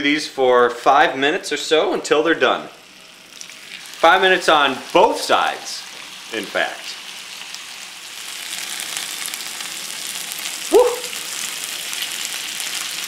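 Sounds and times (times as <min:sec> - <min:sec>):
skewers sizzling on grill pan: 0:01.2 - 0:13.0.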